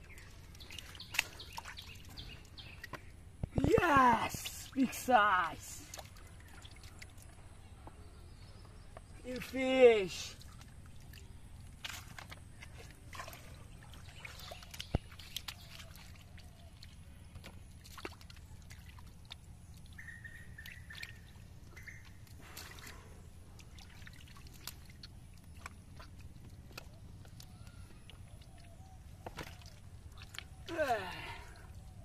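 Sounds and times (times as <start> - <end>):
muddy water splashing and sloshing: 0.0 - 32.0.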